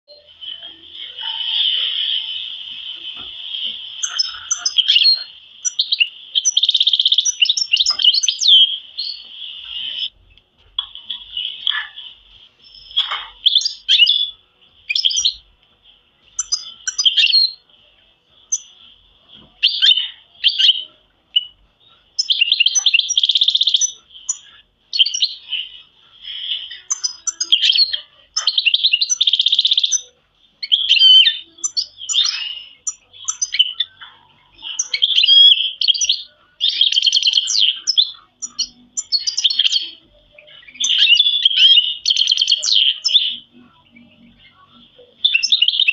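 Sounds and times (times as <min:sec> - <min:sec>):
canaries singing trills: 0:00.1 - 0:45.9.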